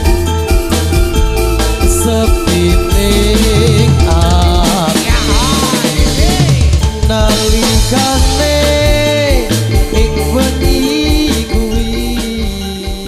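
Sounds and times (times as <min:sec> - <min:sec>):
band with drums and bass: 0:00.0 - 0:13.0
person singing a melody: 0:01.8 - 0:13.0.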